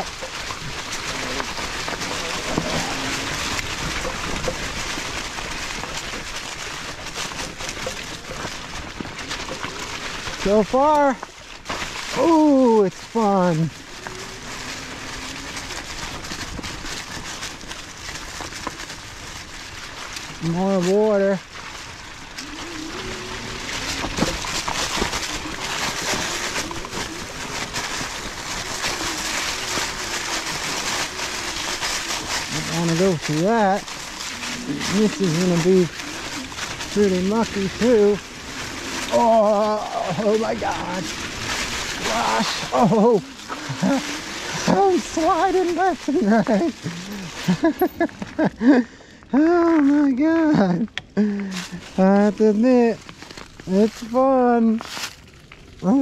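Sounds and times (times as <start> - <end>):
bike tires rolling over dry leaves: 0.0 - 56.0.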